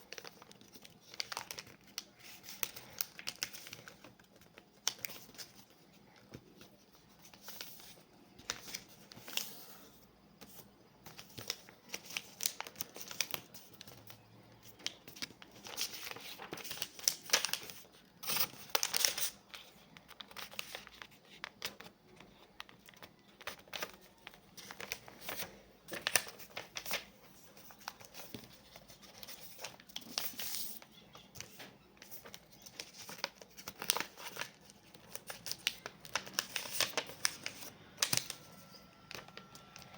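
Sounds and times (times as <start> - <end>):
paper crinkling and creasing: 0.0 - 39.9.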